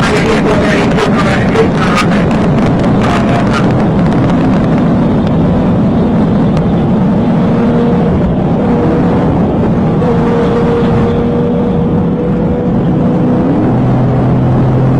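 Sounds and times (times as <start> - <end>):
road and wind noise: 0.0 - 14.9
vehicle engine running hard: 0.0 - 14.9.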